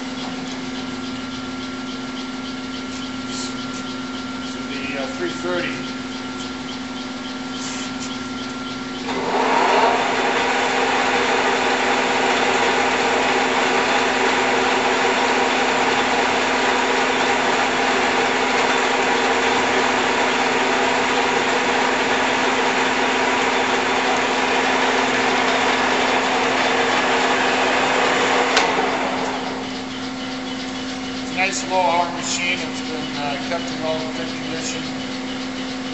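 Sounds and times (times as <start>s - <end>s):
lathe gearing whirring: 0.0s - 35.9s
lathe motor hum: 0.0s - 35.9s.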